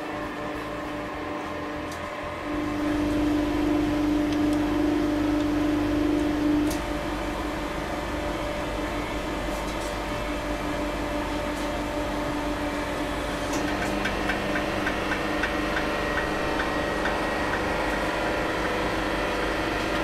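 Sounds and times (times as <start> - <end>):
hydraulic pump motor humming: 0.0 - 20.0.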